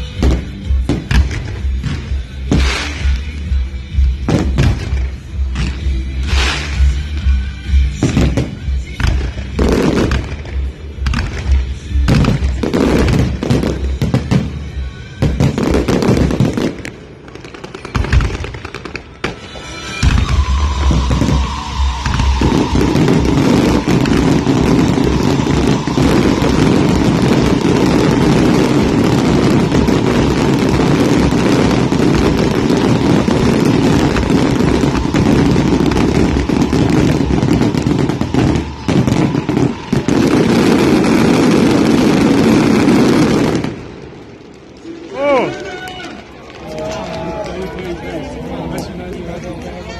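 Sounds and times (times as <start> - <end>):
fireworks crackling: 0.0 - 49.9.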